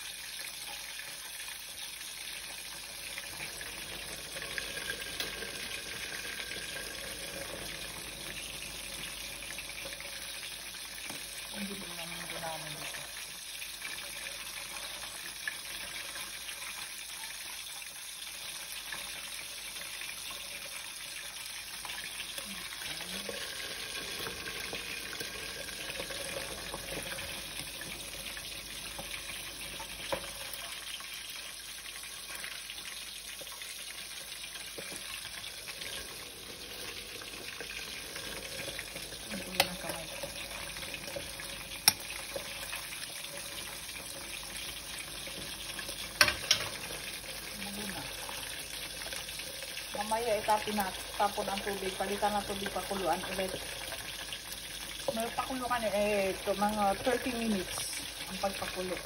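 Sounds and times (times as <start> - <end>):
water boiling in a pot: 0.0 - 59.0.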